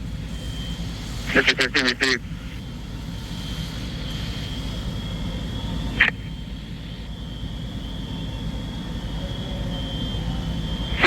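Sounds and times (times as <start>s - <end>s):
faint high whine: 0.0s - 11.0s
fire engines droning: 0.0s - 11.0s.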